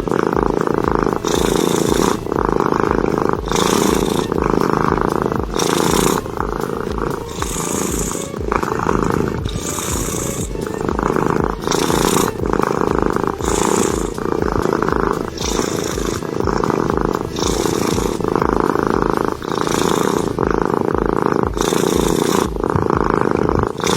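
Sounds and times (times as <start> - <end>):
cat snoring: 0.0 - 23.9.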